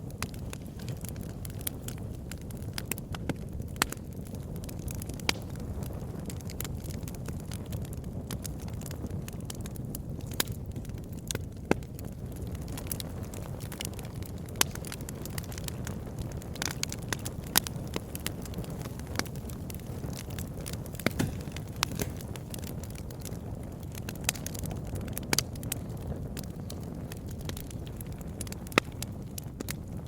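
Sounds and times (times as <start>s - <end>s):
low rumble of flames: 0.0s - 30.0s
wood crackling and popping: 0.0s - 30.0s.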